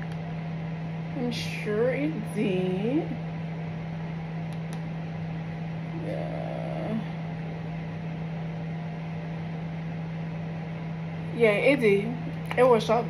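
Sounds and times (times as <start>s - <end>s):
household appliance humming: 0.0s - 13.0s.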